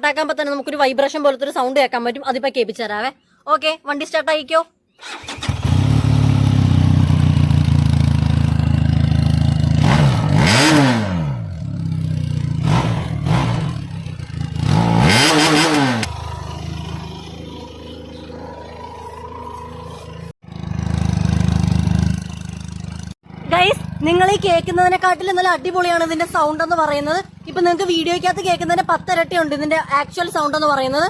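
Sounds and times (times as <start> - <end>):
motorcycle engine idling and revving: 5.1 - 31.0.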